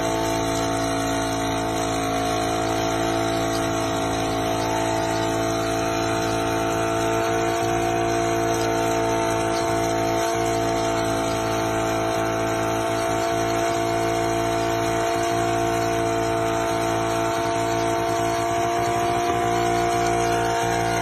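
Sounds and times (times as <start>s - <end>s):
car engine droning at high speed: 0.0s - 21.0s
hiss of fire: 0.0s - 21.0s.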